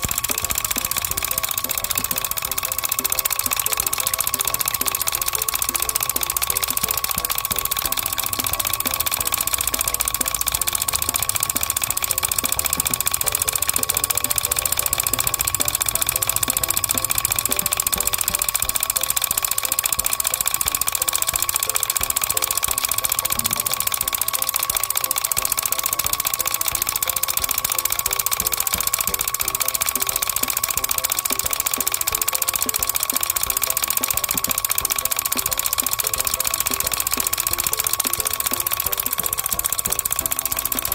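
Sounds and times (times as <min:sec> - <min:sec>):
model water pumps buzzing whir: 0:00.0 - 0:40.9.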